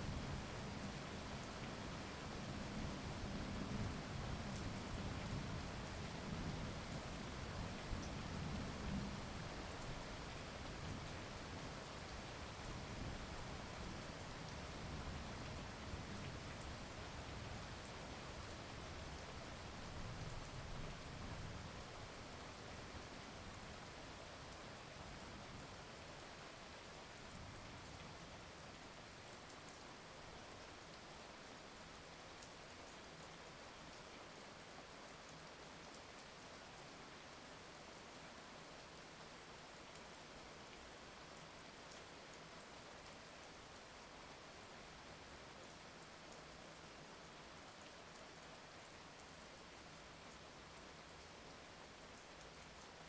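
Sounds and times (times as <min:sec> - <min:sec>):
soft rain falling: 0:00.0 - 0:53.0.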